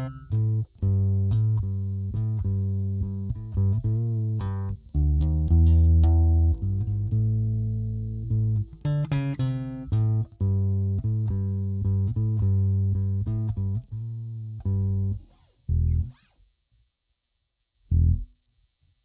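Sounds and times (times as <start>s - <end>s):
electric bass plucked notes: 0.0s - 16.1s, 17.9s - 18.3s.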